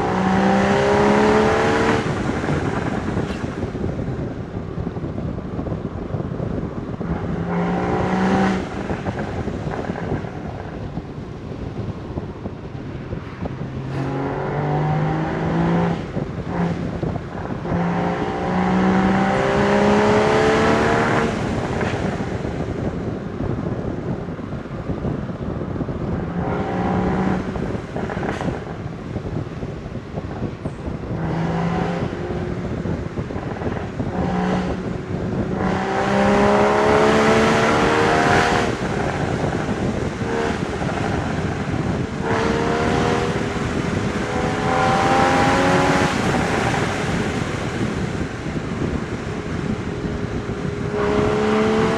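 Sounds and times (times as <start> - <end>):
car engine accelerating: 0.0 - 51.9
wind and road noise: 0.0 - 51.9.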